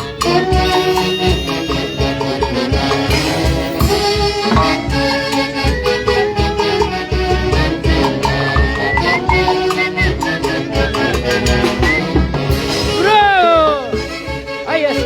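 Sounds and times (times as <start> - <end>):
band playing instrumental music: 0.0 - 15.0.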